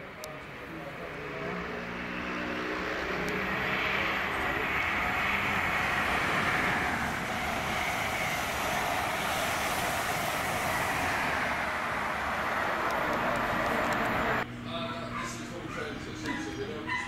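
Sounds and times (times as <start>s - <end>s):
train passing at speed: 0.0s - 14.6s.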